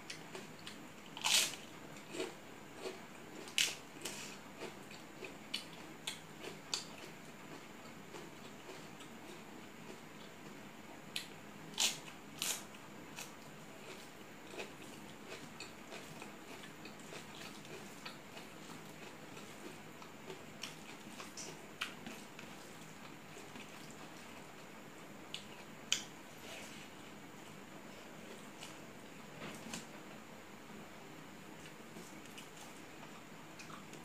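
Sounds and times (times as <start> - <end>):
person chewing food: 0.1 - 12.6, 13.2 - 27.0, 31.6 - 34.0.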